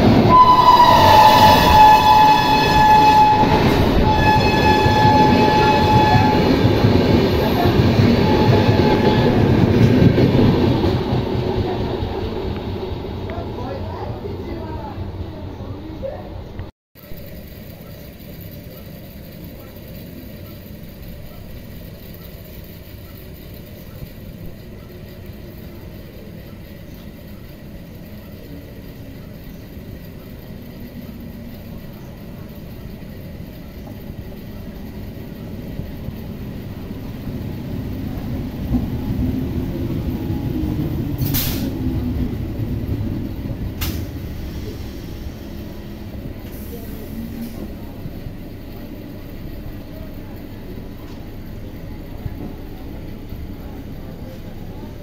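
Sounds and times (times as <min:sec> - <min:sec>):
train motor hum: 0:00.0 - 0:55.0
train passing with rumble: 0:00.0 - 0:55.0.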